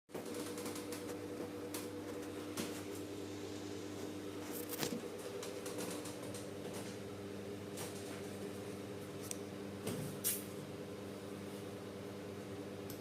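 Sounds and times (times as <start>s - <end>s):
desktop computer humming: 0.1s - 13.0s.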